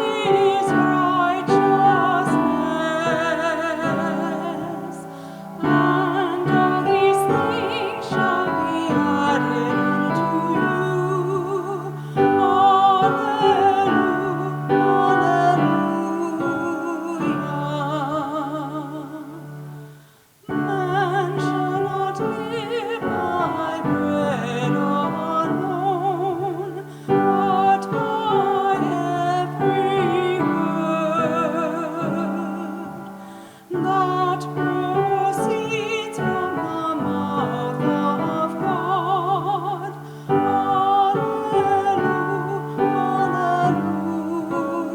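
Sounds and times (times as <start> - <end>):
classical solo voice singing: 0.0 - 44.9
piano accompaniment: 0.0 - 44.9.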